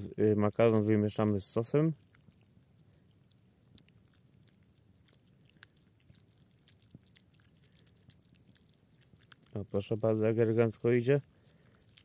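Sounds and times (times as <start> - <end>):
soft wet stirring sounds: 0.0 - 12.0.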